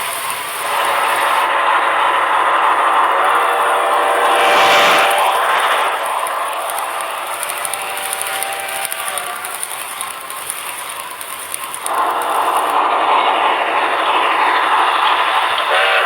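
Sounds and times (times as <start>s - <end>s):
model steam locomotive hiss: 0.0s - 16.0s.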